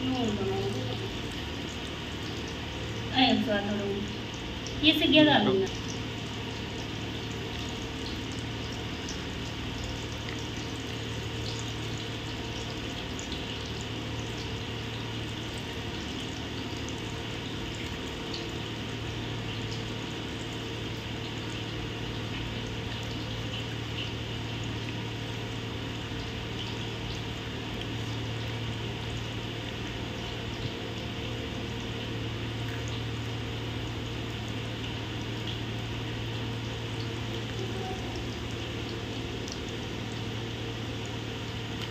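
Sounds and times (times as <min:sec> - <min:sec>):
hot oil sizzling and bubbling: 0:00.0 - 0:41.9
steady low hum: 0:00.0 - 0:41.9.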